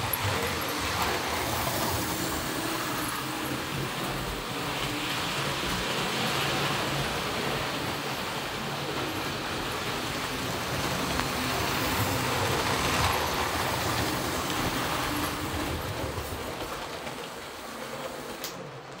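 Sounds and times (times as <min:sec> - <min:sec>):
model train rumbling on rails: 0:00.0 - 0:19.0.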